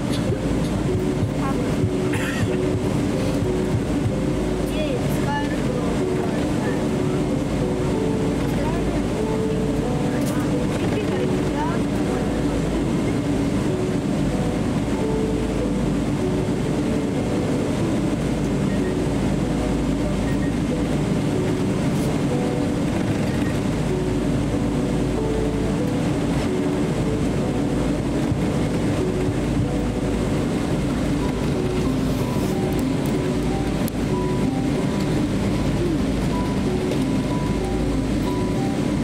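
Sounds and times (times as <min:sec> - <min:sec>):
airliner cabin low rumble: 0:00.0 - 0:39.0.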